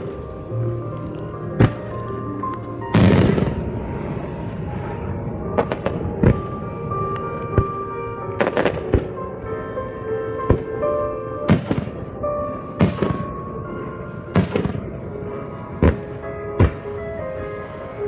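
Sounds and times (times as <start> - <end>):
music playing: 0.0 - 18.0.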